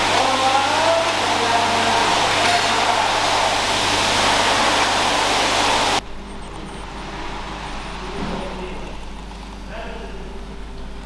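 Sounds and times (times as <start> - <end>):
loud machine noise: 0.0 - 11.0.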